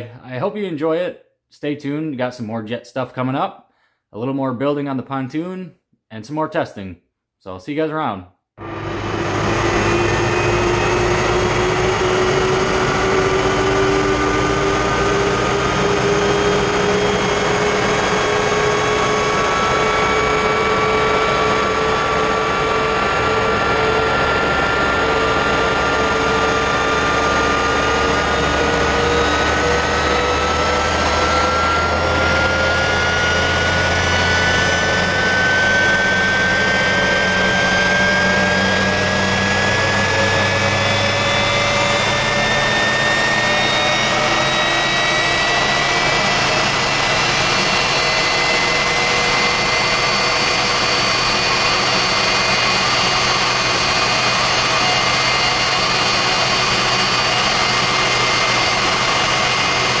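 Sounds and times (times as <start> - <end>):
jet engine roar with whine: 8.6 - 60.0.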